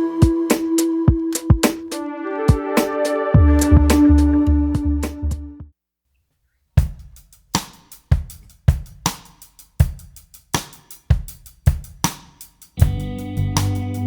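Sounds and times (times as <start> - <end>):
drum beat: 0.2 - 5.7, 6.8 - 14.0.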